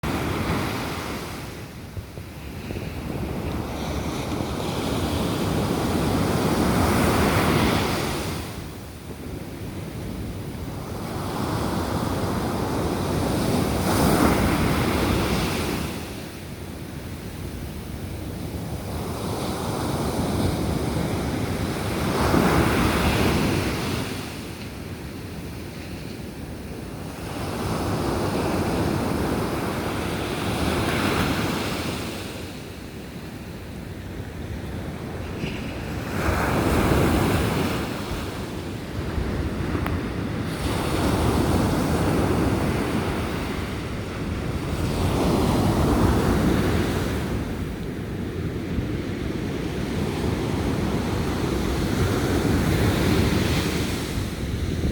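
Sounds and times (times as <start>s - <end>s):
ocean waves breaking on beach: 0.0s - 54.9s.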